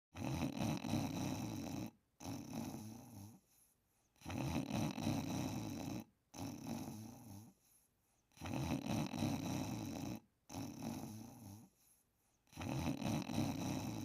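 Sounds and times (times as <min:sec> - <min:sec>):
rasping snoring: 0:00.2 - 0:14.0.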